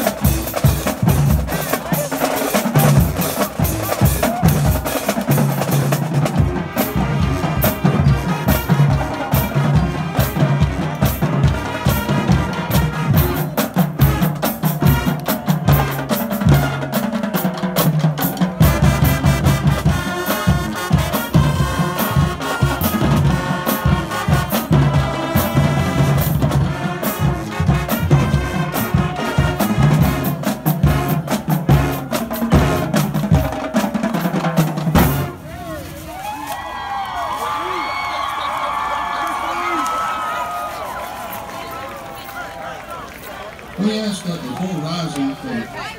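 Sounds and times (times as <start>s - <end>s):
marching band playing: 0.0s - 45.9s.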